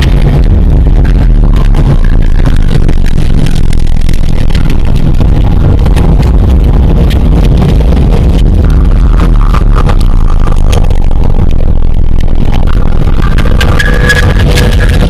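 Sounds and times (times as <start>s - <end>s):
crackling: 0.0s - 15.0s.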